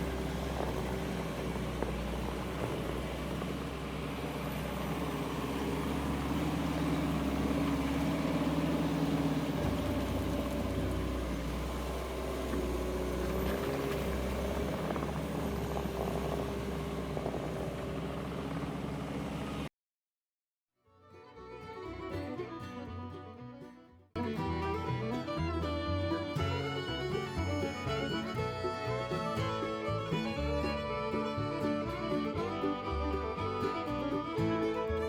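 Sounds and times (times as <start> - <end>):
diesel engine running: 0.0 - 19.7, 24.2 - 35.0.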